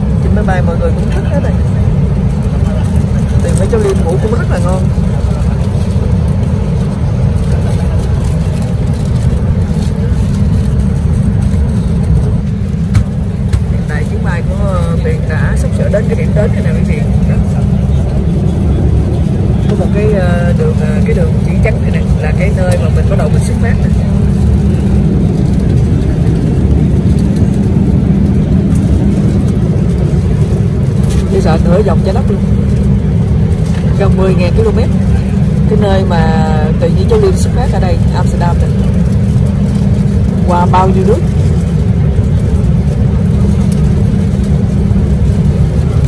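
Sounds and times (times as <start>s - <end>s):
airliner cabin engine rumble: 0.0s - 46.0s.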